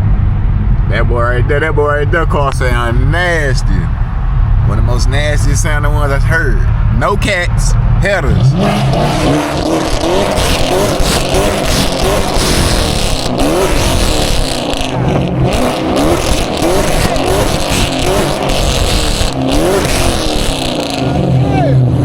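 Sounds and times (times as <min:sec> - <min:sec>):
car engine revving: 0:00.0 - 0:22.0
road noise: 0:00.0 - 0:22.0.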